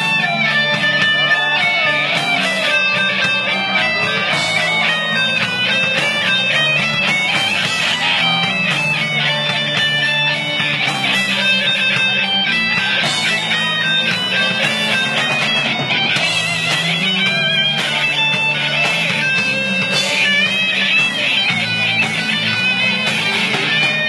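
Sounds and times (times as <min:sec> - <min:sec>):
bass guitar: 0:00.0 - 0:24.0
drums: 0:00.0 - 0:24.0
electric guitars: 0:00.0 - 0:24.0.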